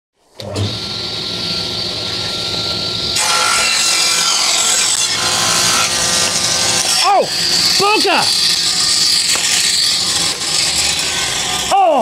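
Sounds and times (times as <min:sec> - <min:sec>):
table saw motor whine: 0:00.3 - 0:12.0
saw blade cutting wood: 0:00.6 - 0:12.0.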